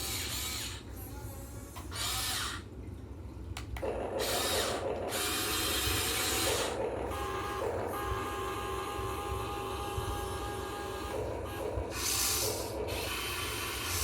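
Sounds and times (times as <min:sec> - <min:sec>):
electric motors and gearboxes whirring: 0:00.0 - 0:02.7, 0:03.8 - 0:14.0.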